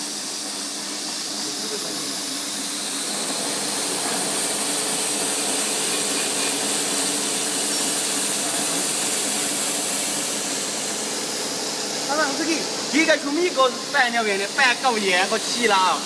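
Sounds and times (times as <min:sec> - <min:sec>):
machine mechanical hum: 0:00.0 - 0:16.0.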